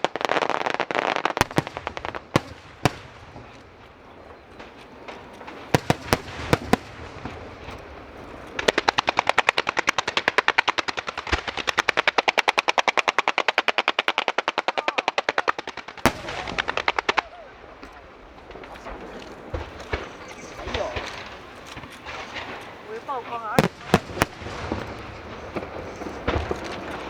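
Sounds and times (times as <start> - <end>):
firework bangs: 0.0 - 27.0
rapid firework cracks: 0.0 - 27.0.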